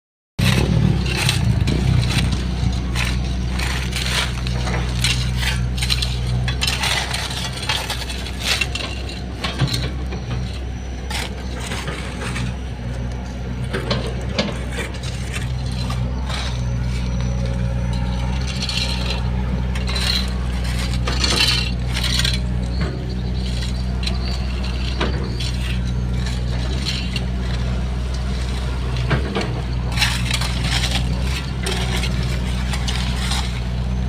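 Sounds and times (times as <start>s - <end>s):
crunching and scraping material: 0.4s - 34.0s
excavator engine running: 0.4s - 34.0s.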